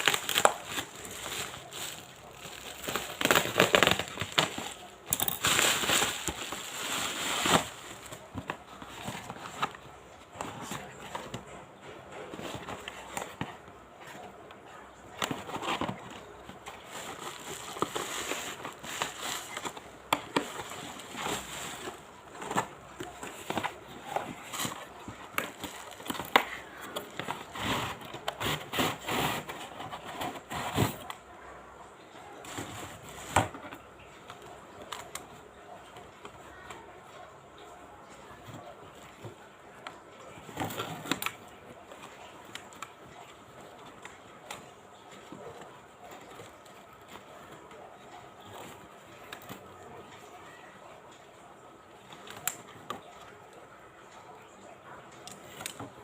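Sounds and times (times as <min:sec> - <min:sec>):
packaging rustling and crinkling: 0:00.0 - 0:31.2, 0:32.4 - 0:36.8, 0:38.3 - 0:49.9.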